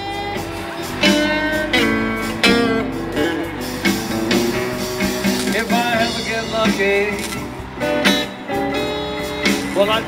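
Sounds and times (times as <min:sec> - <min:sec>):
guitar strummed and plucked: 0:00.0 - 0:10.0.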